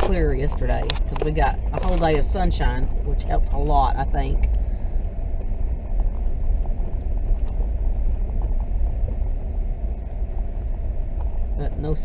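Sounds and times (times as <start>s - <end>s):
car road rumble on snow: 0.0s - 12.0s.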